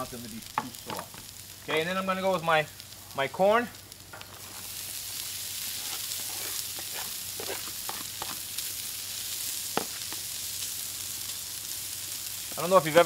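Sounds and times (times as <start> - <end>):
food sizzling on griddle: 0.0 - 13.0.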